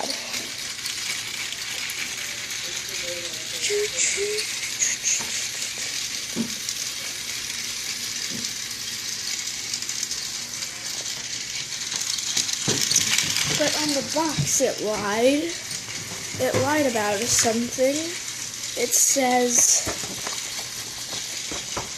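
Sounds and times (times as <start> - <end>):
toy train whirring: 0.0 - 21.9.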